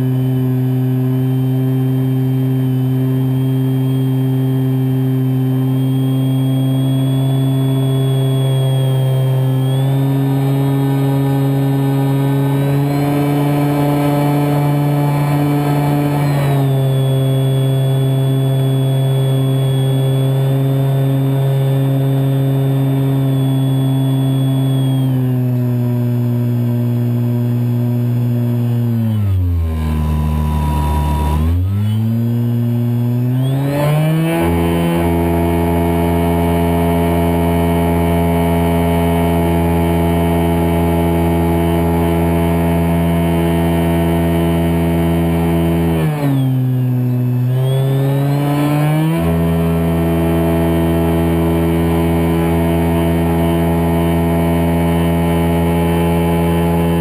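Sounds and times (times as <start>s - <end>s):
electric motor and propeller whining: 0.0s - 57.0s.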